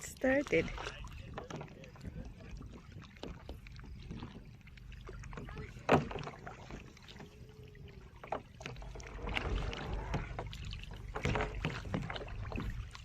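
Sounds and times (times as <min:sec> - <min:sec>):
water splashing from paddling: 0:00.0 - 0:13.0.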